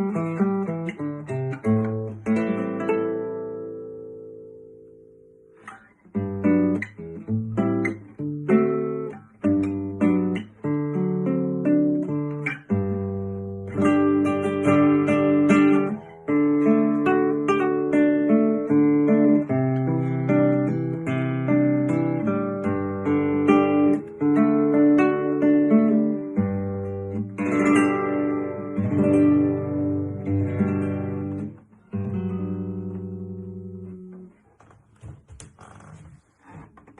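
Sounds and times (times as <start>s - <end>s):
classical guitar playing: 0.0s - 36.9s.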